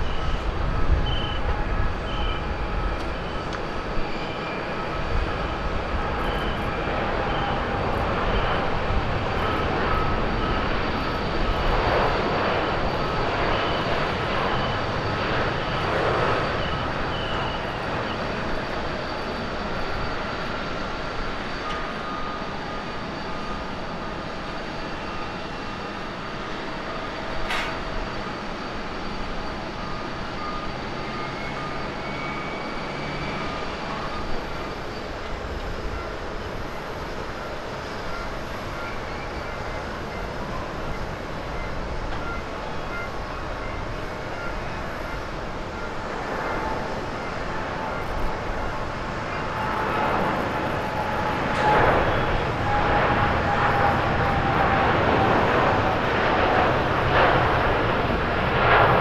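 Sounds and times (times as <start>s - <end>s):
jet engines roaring at takeoff: 0.0s - 59.0s.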